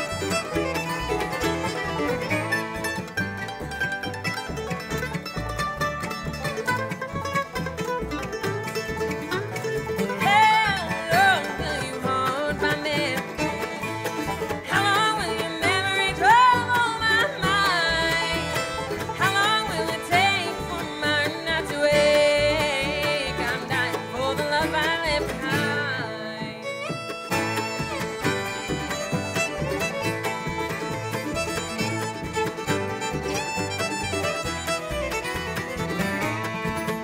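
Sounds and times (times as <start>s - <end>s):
acoustic guitars: 0.0s - 37.0s
banjo: 0.0s - 37.0s
fiddle: 0.0s - 37.0s
mandolin: 0.0s - 37.0s
upright bass: 0.0s - 37.0s.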